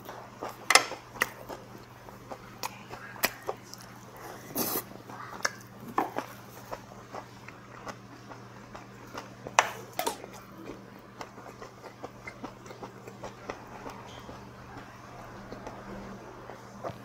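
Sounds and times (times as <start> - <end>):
chewing and mouth noises: 0.0 - 17.0.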